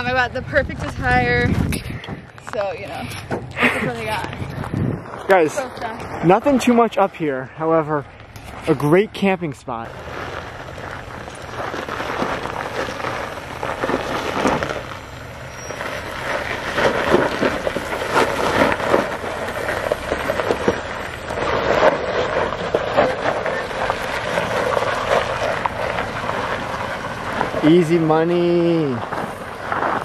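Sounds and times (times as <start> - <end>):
tyres crunching over gravel: 0.0 - 30.0.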